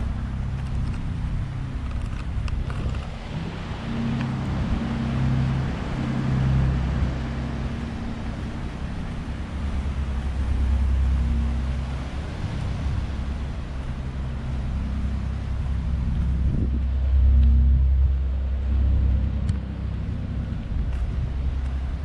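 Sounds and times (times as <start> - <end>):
engine humming and rumbling: 0.0 - 22.0.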